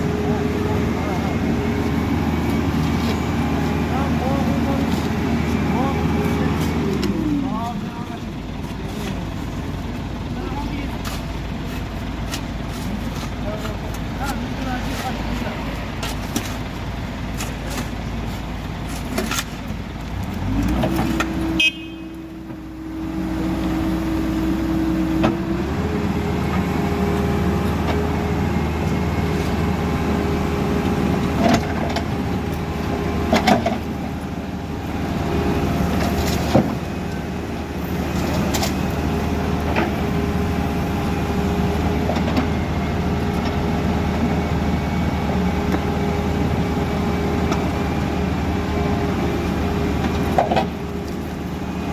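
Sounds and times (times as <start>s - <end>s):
backhoe engine running: 0.0s - 51.9s.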